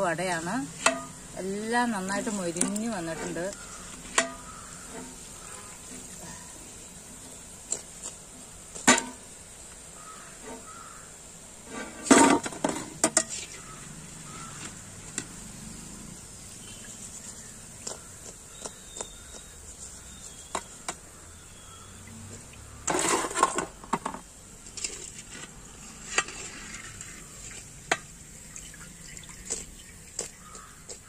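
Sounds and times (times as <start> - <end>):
oil frying hiss: 0.0 - 31.0.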